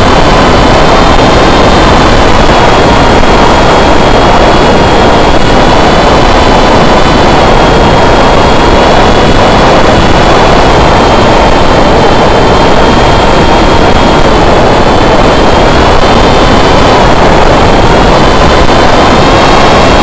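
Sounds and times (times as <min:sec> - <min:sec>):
electric motor and propeller whine: 0:00.0 - 0:20.0
wind rushing: 0:00.0 - 0:20.0.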